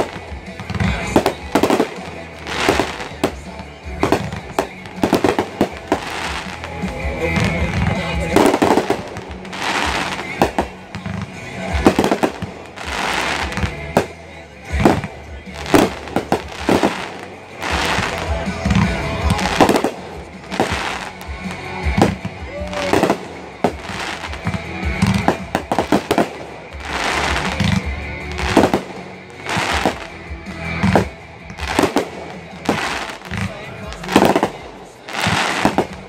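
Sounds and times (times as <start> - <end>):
fireworks launching and bursting: 0.0 - 36.0
music playing: 0.0 - 36.0.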